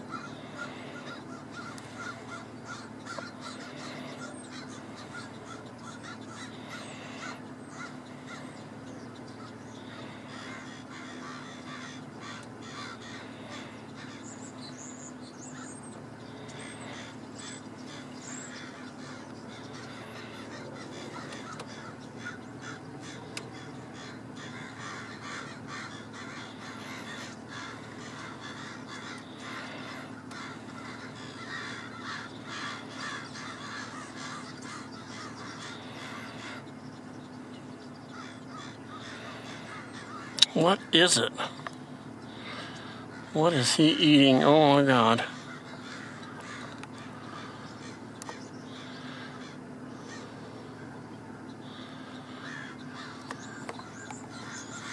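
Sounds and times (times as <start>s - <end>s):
blackbirds calling and chattering: 0.0s - 54.9s
steady low hum: 0.0s - 54.9s.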